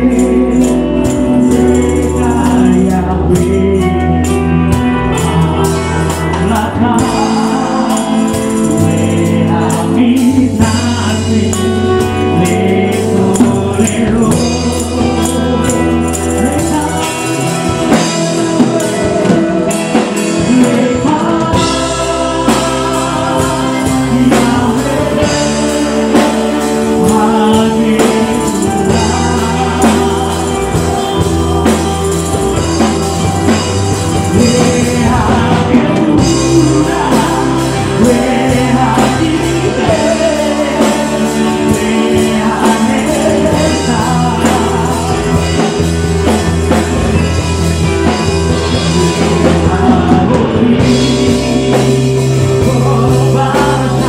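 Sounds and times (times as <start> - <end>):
electric guitar: 0.0 - 54.0
live worship band: 0.0 - 54.0
man singing into microphone: 0.0 - 54.0.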